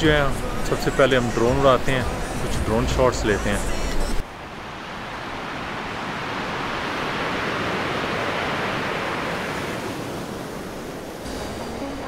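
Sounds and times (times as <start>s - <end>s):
waves breaking: 0.0s - 12.0s.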